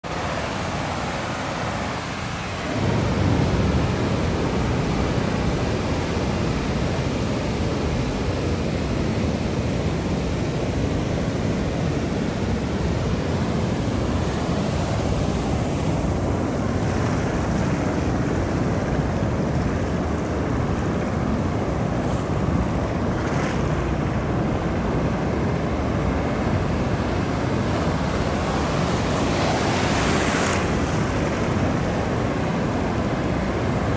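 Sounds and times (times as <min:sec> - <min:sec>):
ocean waves and surf: 0:00.0 - 0:33.9.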